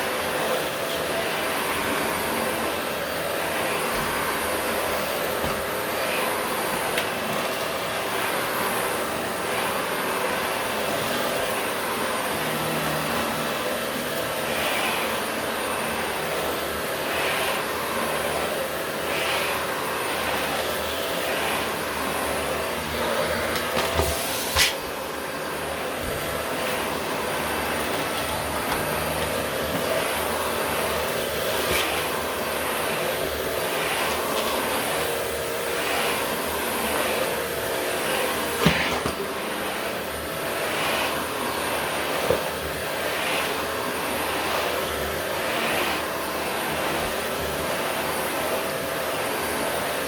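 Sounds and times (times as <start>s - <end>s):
vacuum cleaner on carpet: 0.0s - 50.0s.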